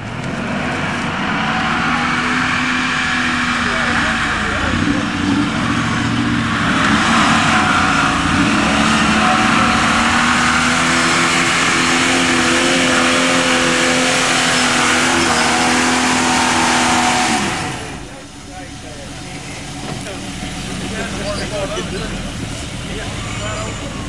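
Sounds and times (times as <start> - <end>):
car engine at high revs: 0.0 - 24.0
tires spinning in dirt: 0.0 - 24.0.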